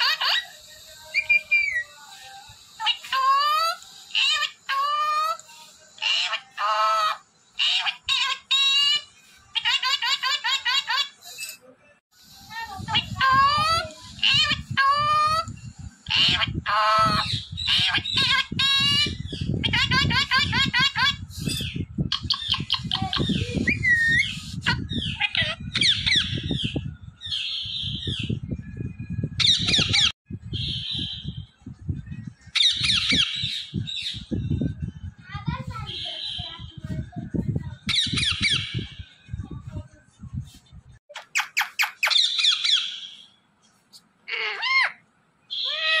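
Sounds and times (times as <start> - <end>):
parakeet squawks and chirps: 0.0 - 11.6, 12.2 - 28.4, 29.4 - 31.4, 32.5 - 34.3, 37.9 - 39.2, 41.1 - 43.4, 44.3 - 46.0.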